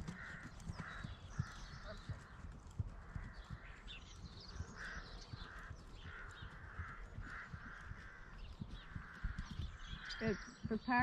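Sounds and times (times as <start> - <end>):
crow-like calls: 0.0 - 3.9, 4.6 - 11.0.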